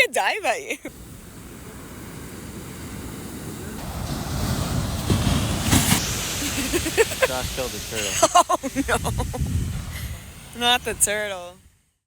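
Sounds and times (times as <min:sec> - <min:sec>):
surf washing: 0:00.0 - 0:11.6
wind buffeting microphone: 0:00.9 - 0:11.7.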